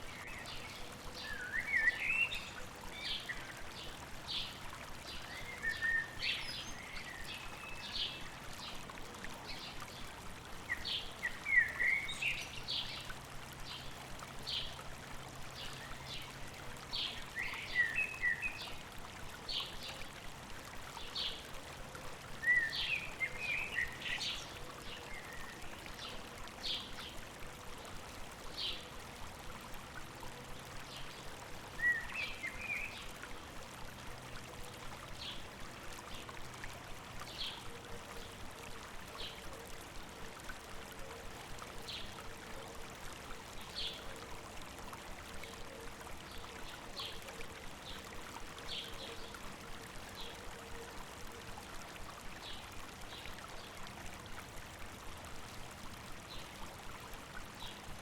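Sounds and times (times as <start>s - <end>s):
stream running: 0.0s - 58.0s.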